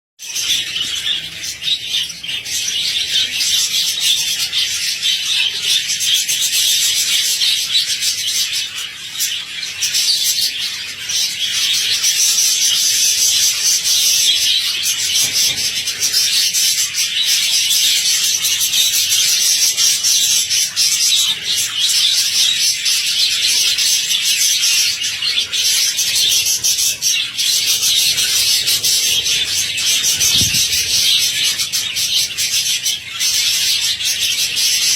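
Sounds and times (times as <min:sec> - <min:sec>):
budgerigars chattering and chirping: 0:00.2 - 0:34.9.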